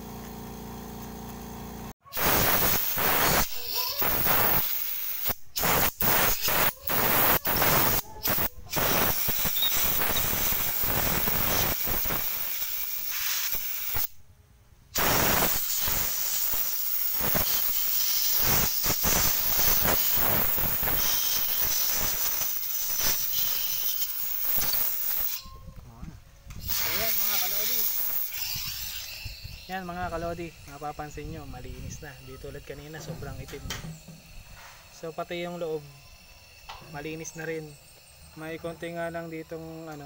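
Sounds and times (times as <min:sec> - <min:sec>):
compressed air blow gun hissing: 0:02.1 - 0:14.2, 0:15.0 - 0:25.5, 0:26.5 - 0:40.0.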